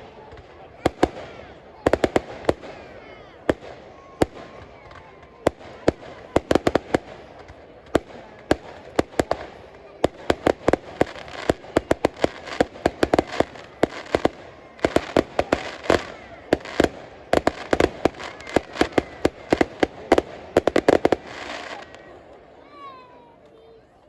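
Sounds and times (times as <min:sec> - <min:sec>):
fireworks bangs: 0:00.0 - 0:22.8.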